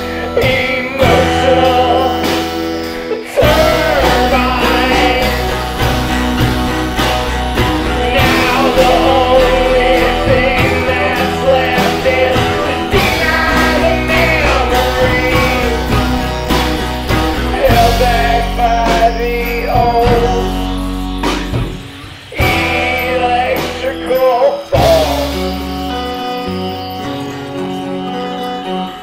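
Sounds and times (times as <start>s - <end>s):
guitar: 0.0s - 29.0s
person singing: 0.0s - 29.0s.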